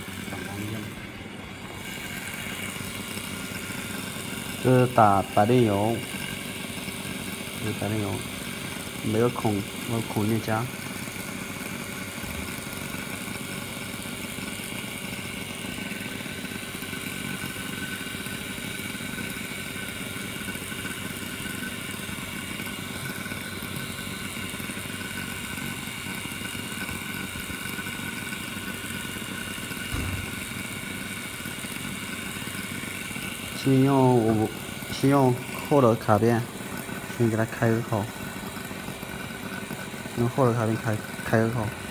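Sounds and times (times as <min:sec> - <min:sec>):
electric motor humming: 0:00.0 - 0:41.9.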